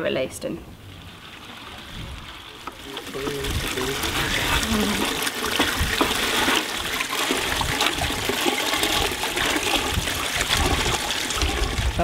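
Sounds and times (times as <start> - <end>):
water running and splashing: 0.8 - 12.0.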